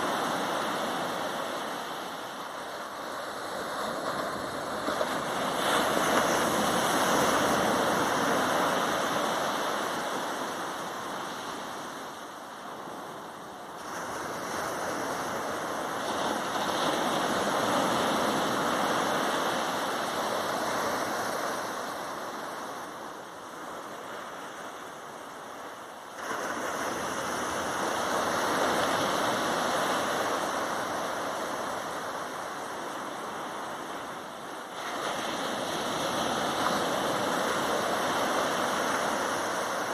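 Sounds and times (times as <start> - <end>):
ocean waves breaking on sand: 0.0 - 39.9.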